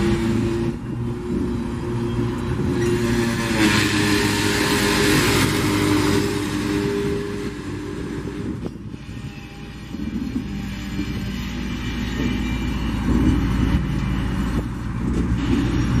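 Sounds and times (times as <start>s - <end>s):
diesel locomotive drone: 0.0s - 16.0s
wagon wheels rolling on rails: 0.0s - 16.0s.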